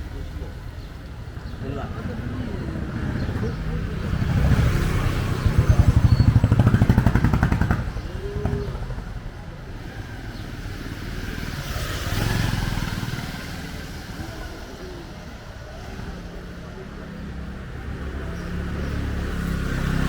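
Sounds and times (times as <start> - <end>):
motorcycle passing close: 1.2 - 20.0
vehicle passing: 1.2 - 20.0.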